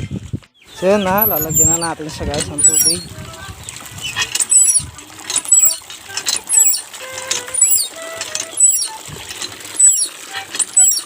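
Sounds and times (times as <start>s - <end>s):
squeaky hand water pump: 0.0s - 11.0s
water splashing into container: 0.0s - 11.0s.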